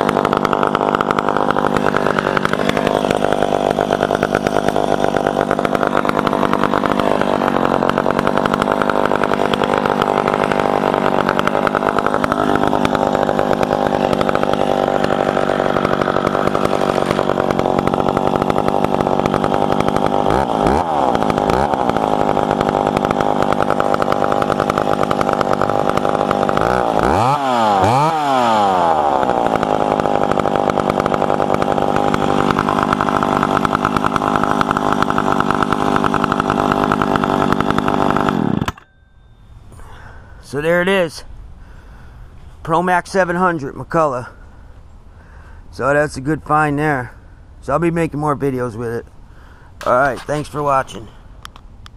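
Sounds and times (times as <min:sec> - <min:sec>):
chainsaw running: 0:00.0 - 0:44.6, 0:47.8 - 0:51.9.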